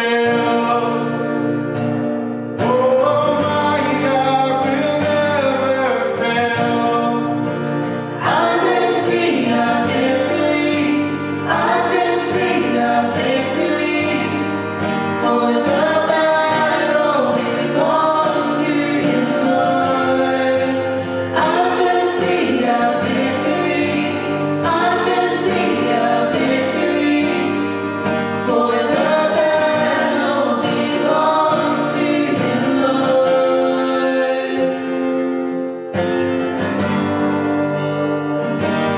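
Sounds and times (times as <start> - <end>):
voices singing worship song: 0.0 - 37.4.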